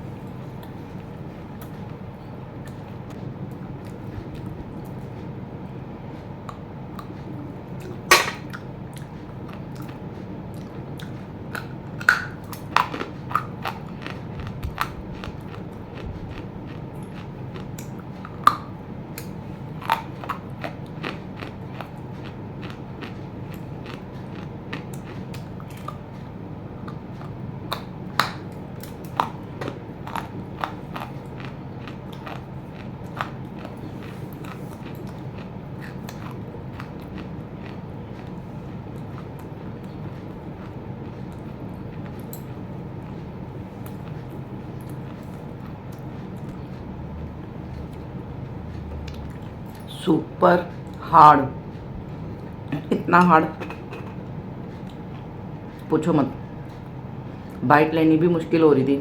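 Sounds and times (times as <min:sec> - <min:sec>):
steady low hum: 0:00.0 - 0:59.0
cracking and crunching of chewing: 0:00.1 - 0:50.1, 0:50.7 - 0:57.6.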